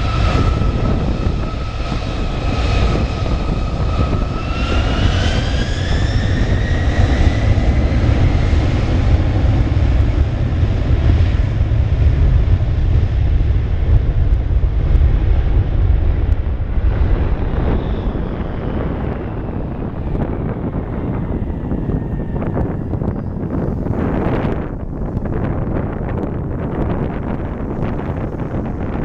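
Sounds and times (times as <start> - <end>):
jet engines spooling up: 0.0 - 26.3.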